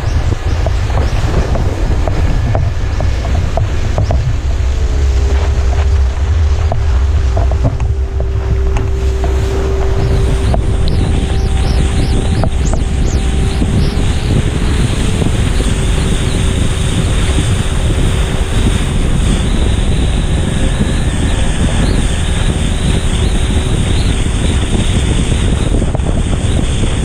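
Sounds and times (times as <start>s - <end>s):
boat engine running: 0.0s - 27.0s
water churning in wake: 0.0s - 27.0s
wind on microphone: 0.0s - 27.0s.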